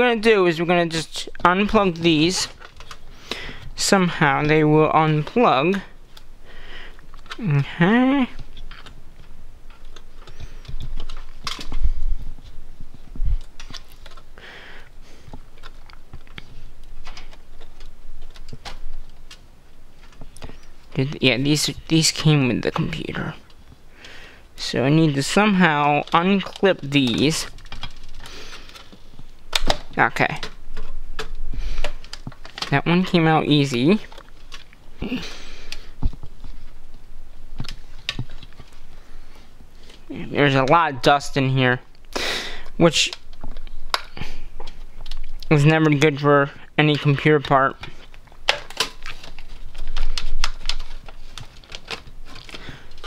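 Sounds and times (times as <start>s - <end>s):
plastic connectors clicking and rattling: 0.0s - 6.3s, 6.9s - 14.4s, 15.2s - 23.7s, 24.6s - 39.0s, 41.9s - 46.2s, 46.8s - 53.0s
rustle inside computer case: 0.0s - 6.4s, 7.0s - 41.9s, 42.7s - 53.0s.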